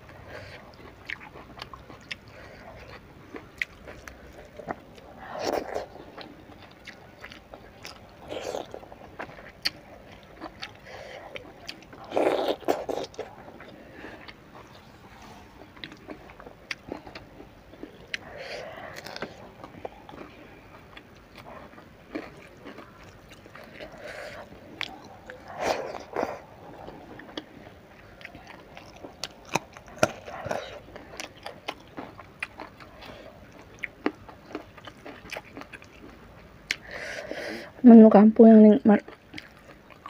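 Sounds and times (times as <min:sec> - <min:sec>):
wet chewing: 0:00.0 - 0:37.2, 0:39.0 - 0:40.0.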